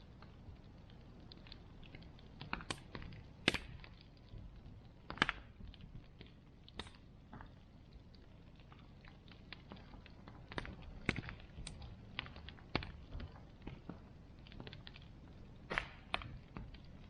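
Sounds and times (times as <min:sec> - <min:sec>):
bonfire crackling and popping: 0:00.0 - 0:17.0
low rush of flame: 0:00.0 - 0:17.0.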